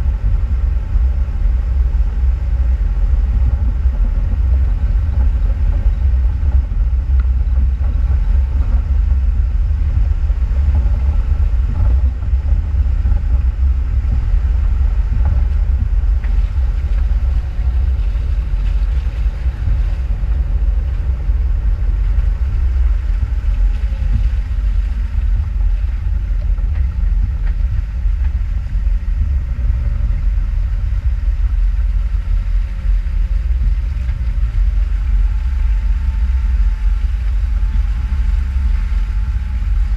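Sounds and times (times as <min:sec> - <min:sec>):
off-road vehicle engine rumble: 0:00.0 - 0:39.9.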